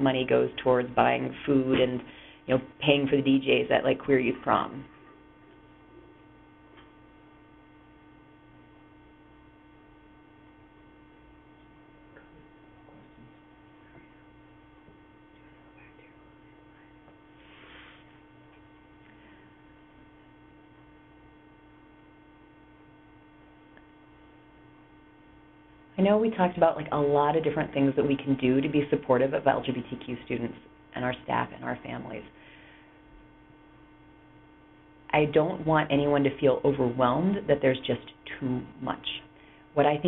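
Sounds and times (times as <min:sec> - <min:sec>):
faint electrical hum: 0:00.0 - 0:40.0.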